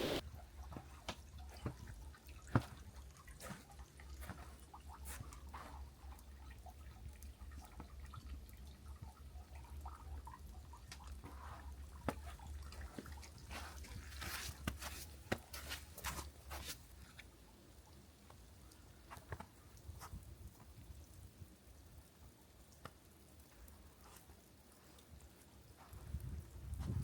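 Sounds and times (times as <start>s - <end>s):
wood fire crackling: 0.0s - 0.2s, 1.0s - 27.0s.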